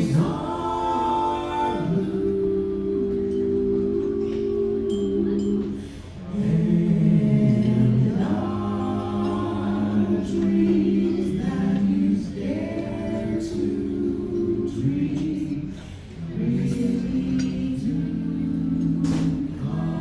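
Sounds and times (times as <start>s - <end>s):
vocal ensemble singing in harmony: 0.0s - 20.0s.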